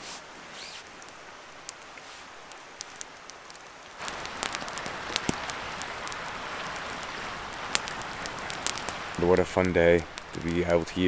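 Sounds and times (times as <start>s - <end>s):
steady outdoor noise: 0.0s - 11.0s.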